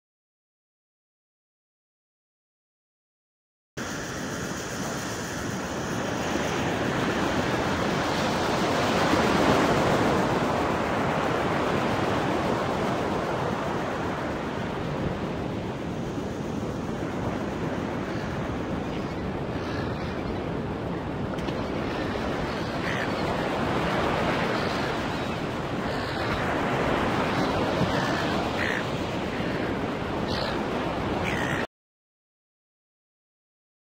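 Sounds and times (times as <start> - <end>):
waves breaking on a beach: 3.8 - 31.7.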